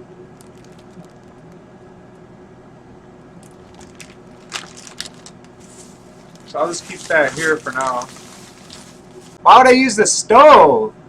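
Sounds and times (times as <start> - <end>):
microwave oven humming: 0.0 - 9.7.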